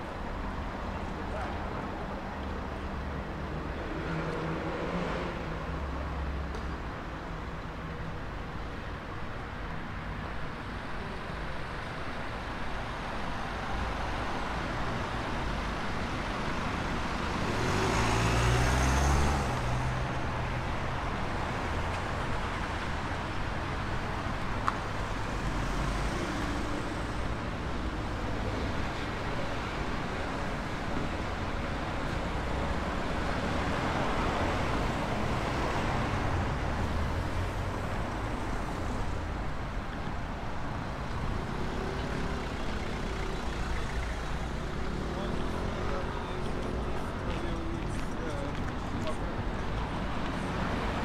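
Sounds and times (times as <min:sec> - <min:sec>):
street traffic noise: 0:00.0 - 0:51.0.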